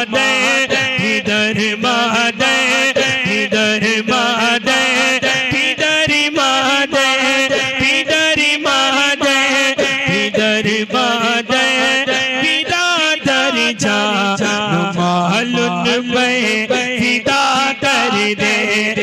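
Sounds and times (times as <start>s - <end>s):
man chanting through pa: 0.0s - 19.0s.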